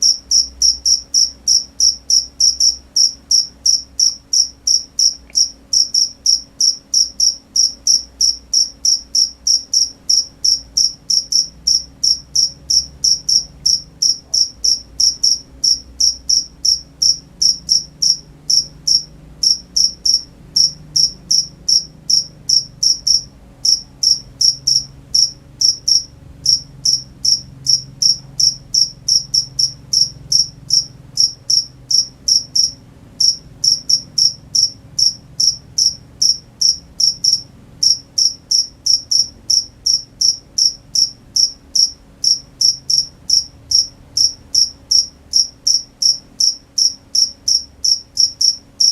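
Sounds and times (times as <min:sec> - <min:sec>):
cricket chirping: 0:00.0 - 0:48.9.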